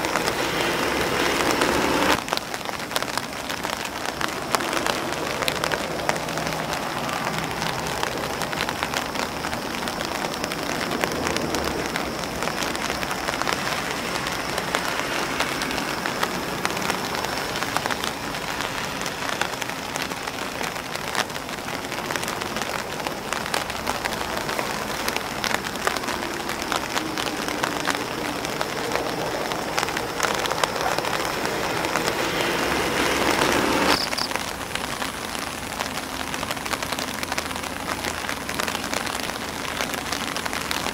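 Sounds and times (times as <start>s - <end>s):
rain pattering on an umbrella: 0.0s - 40.9s.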